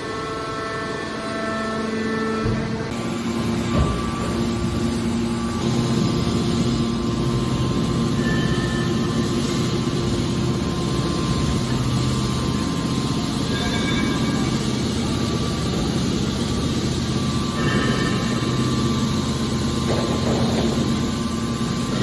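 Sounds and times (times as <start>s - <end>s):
hydraulic baler humming: 0.0s - 22.0s
lower machine hum: 0.0s - 22.0s.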